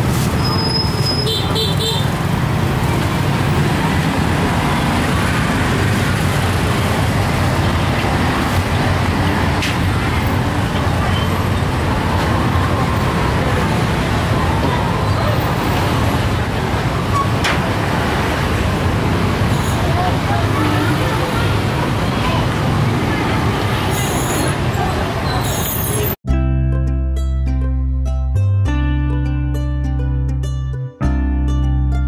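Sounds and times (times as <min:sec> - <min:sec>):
road traffic rumble: 0:00.0 - 0:26.2.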